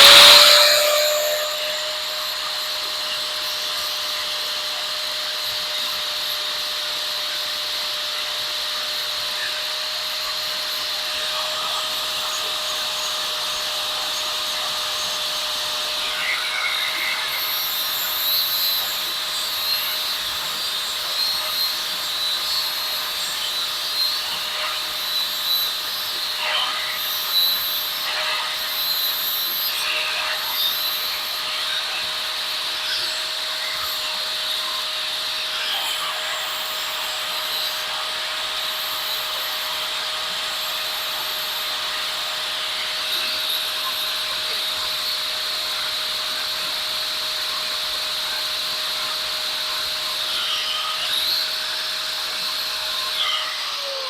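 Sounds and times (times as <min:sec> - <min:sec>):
rotary tool whining: 0:00.0 - 0:54.0.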